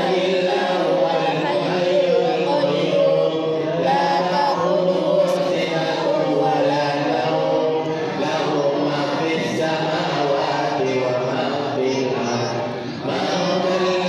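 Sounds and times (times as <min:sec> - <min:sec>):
group chanting in unison: 0:00.0 - 0:14.0.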